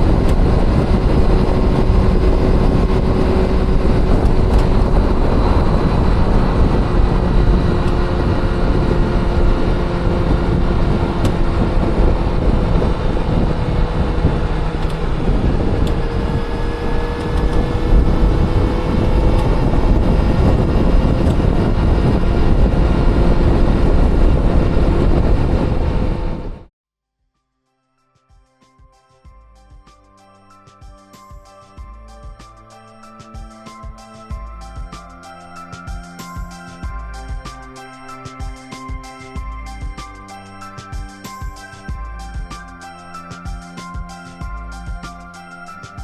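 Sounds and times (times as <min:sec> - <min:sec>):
motorcycle engine running: 0:00.0 - 0:26.7, 0:33.3 - 0:46.0
road and wind noise: 0:00.0 - 0:26.7, 0:31.8 - 0:46.0.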